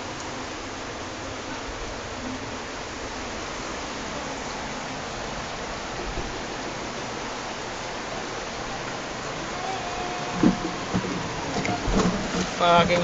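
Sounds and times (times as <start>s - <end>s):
heavy rain and floodwater rushing: 0.0s - 13.0s.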